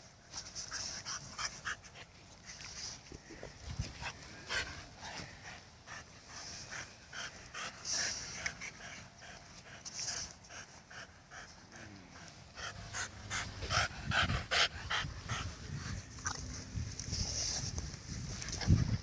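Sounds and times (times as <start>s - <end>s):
dog panting: 0.4s - 16.4s.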